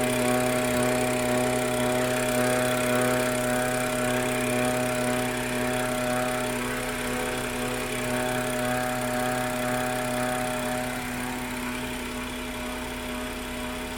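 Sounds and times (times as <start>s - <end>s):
car engine running: 0.0s - 13.9s
turbo whine: 0.0s - 13.9s.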